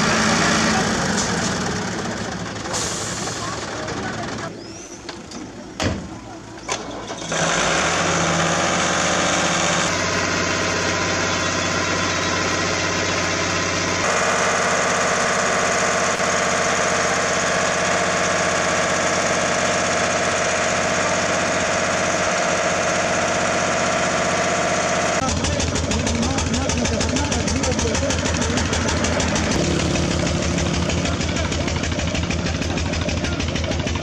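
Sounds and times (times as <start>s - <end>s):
pump engine running: 6.8s - 34.0s.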